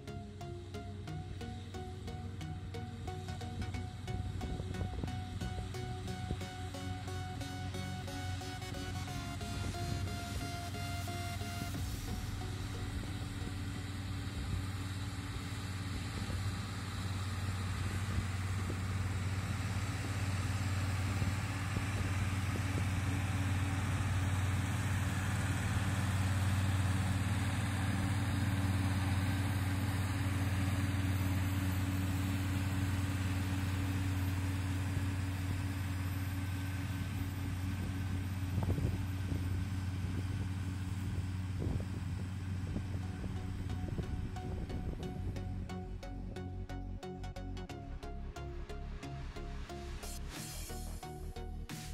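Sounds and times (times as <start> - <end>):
diesel tractor engine droning: 0.0 - 51.9.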